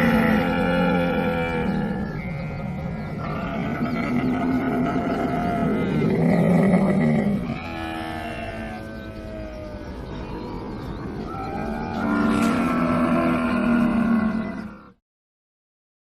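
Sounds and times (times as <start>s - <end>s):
camel calling: 0.0s - 10.5s, 11.2s - 14.9s.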